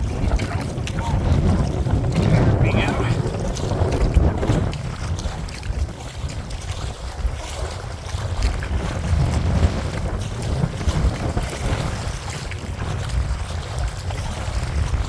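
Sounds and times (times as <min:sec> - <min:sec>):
water splashing: 0:00.0 - 0:15.0
wind buffeting microphone: 0:00.0 - 0:15.0.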